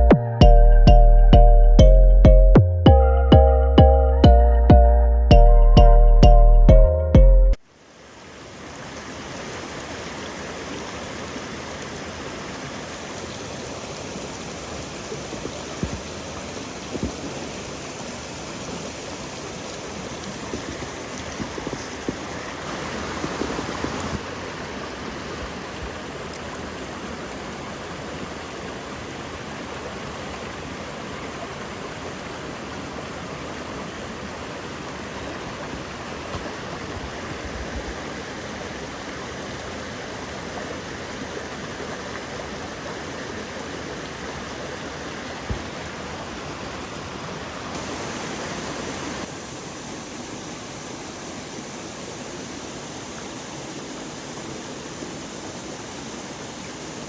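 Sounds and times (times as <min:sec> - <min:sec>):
stream water rushing: 0:07.6 - 0:57.0.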